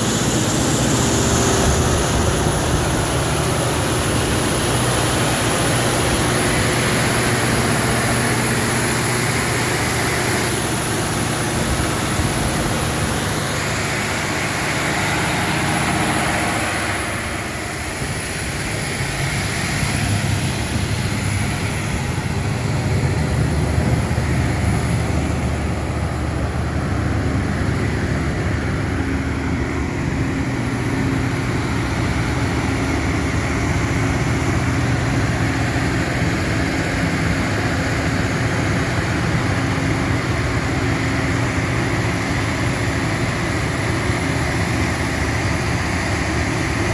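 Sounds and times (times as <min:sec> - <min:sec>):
diesel generator engine drone: 0:00.0 - 0:46.9
high-pitched engine whine: 0:00.0 - 0:46.9.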